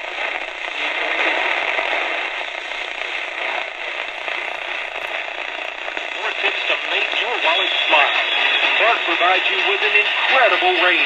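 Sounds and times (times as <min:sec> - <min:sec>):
radio static hissing and crackling: 0:00.0 - 0:11.0.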